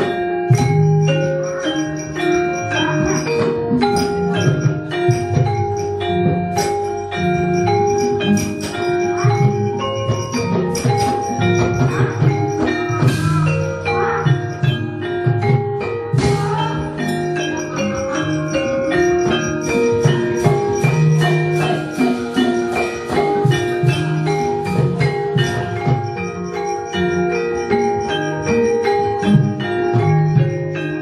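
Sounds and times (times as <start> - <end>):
gamelan music: 0.0 - 31.0.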